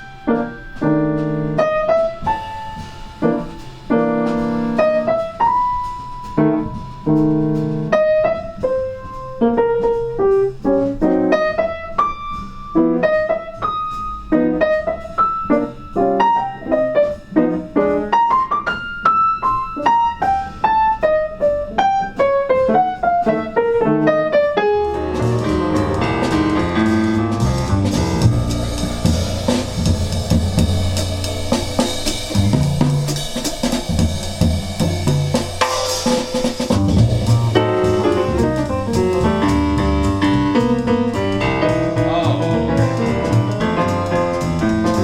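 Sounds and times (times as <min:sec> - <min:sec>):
bass: 0:00.0 - 0:45.0
drums: 0:00.0 - 0:45.0
piano melody over chords: 0:00.0 - 0:45.0.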